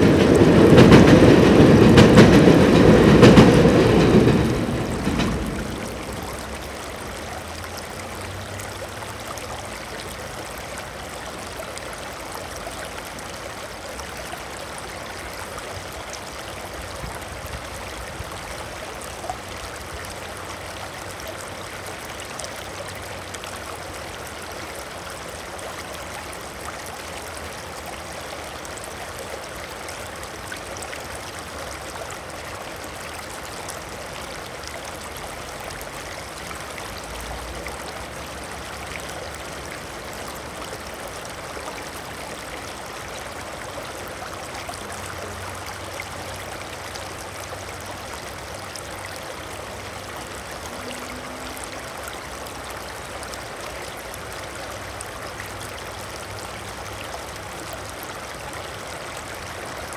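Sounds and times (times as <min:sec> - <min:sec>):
water flowing steadily: 0:00.0 - 0:59.9.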